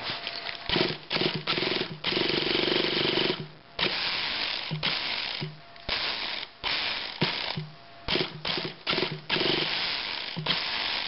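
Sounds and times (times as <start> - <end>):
starter whirring: 0.6 - 11.0.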